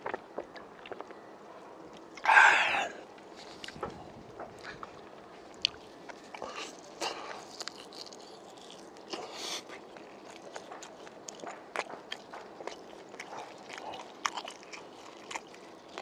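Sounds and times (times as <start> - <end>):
person chewing meat: 0.0 - 1.2, 1.9 - 16.0.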